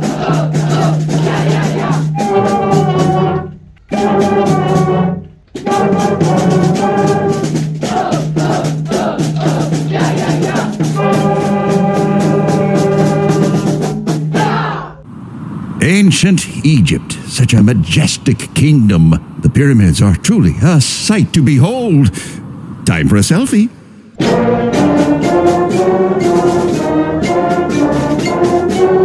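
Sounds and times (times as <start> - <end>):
concert band playing chords: 0.0 - 14.7, 15.8 - 29.0
steady drum beat: 0.0 - 14.8, 15.8 - 29.0.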